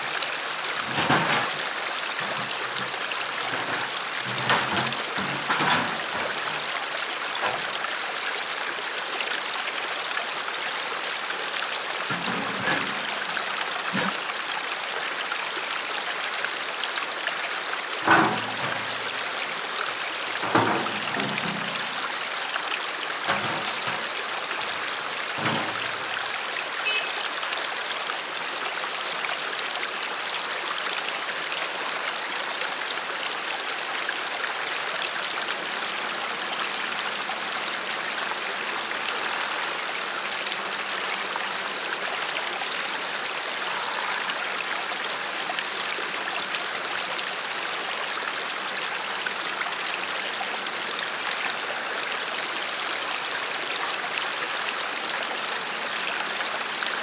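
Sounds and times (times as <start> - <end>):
creek water rushing over rocks: 0.0 - 57.0.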